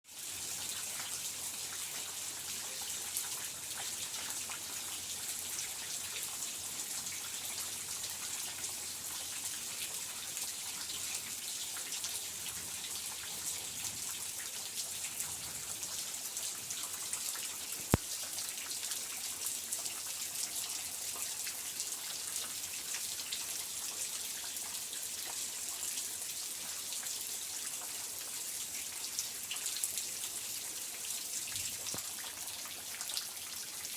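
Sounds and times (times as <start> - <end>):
rain pattering and dripping: 0.1 - 33.9.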